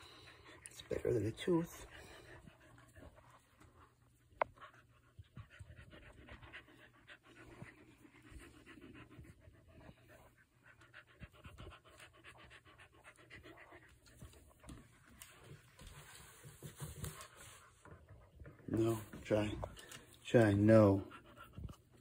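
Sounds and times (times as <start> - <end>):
dog panting softly: 0.0 - 22.0.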